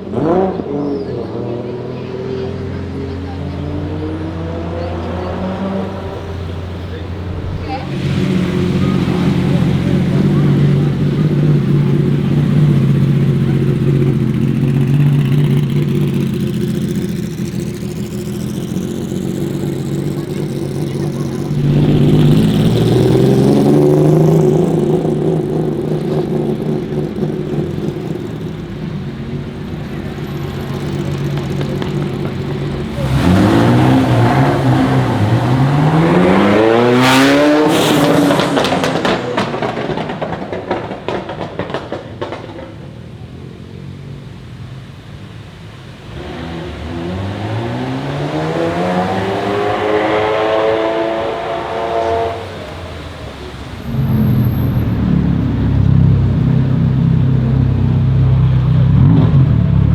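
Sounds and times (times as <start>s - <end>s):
sports car engine revving: 0.0s - 43.9s, 45.9s - 59.9s
exhaust crackles: 0.0s - 59.9s.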